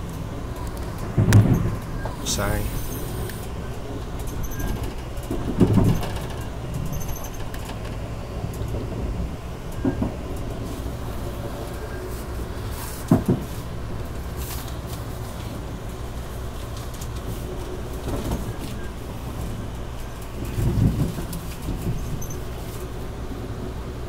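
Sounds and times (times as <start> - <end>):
train coach rumble on rails: 0.0 - 24.0.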